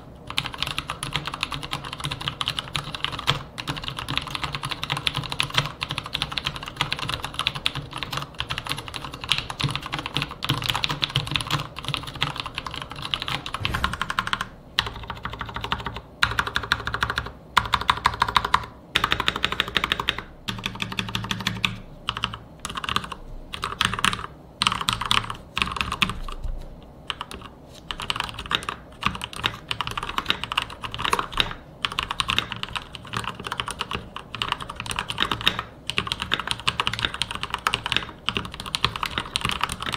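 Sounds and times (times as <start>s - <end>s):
mechanical keyboard typing: 0.3s - 26.2s, 27.1s - 39.9s.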